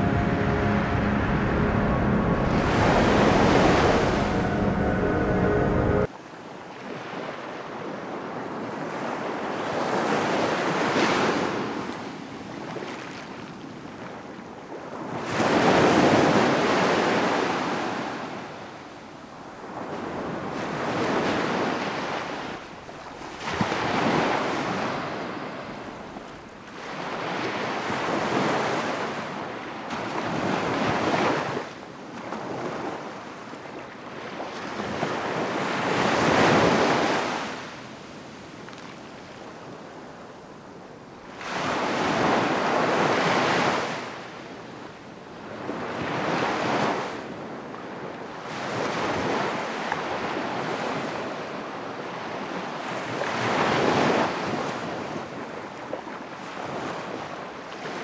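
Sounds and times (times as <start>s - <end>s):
surf washing up a beach: 6.0s - 58.0s.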